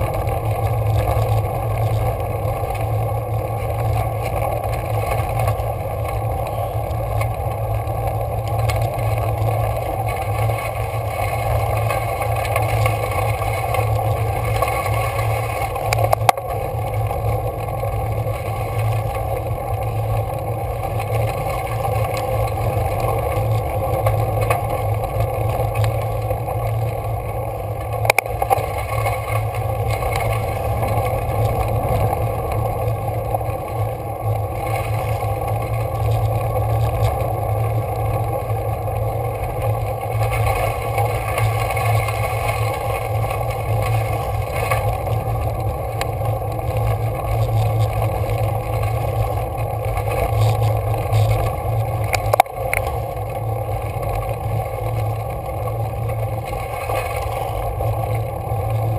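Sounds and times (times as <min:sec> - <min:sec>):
bike tyres on gravel road: 0:00.0 - 0:58.9.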